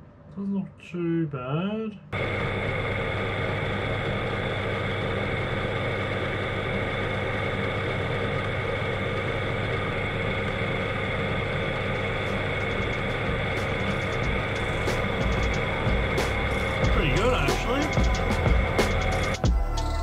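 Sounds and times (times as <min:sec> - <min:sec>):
drill press humming: 0:02.2 - 0:20.0.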